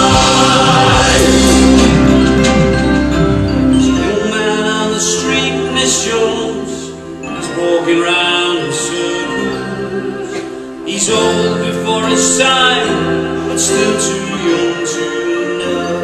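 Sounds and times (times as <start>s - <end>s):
pit band playing held chords: 0.0s - 15.7s.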